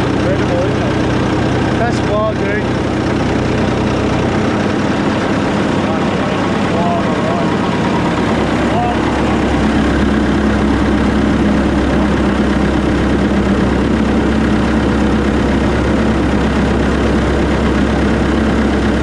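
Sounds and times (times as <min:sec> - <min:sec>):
wood chipper running: 0:00.0 - 0:19.0.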